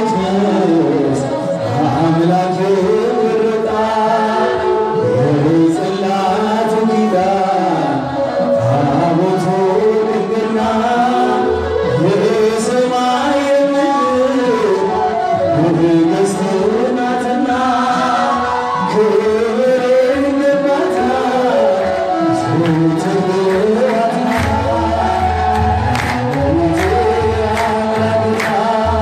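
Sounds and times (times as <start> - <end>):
hymn singing: 0.0 - 29.0.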